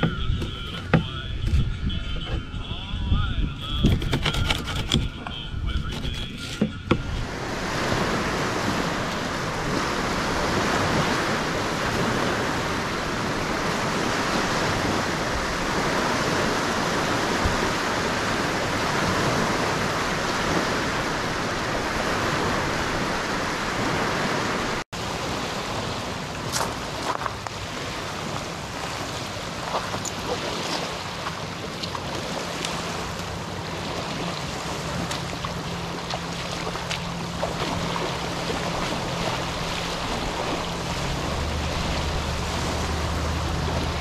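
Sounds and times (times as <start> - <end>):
lake waves breaking on shore: 0.0 - 44.0.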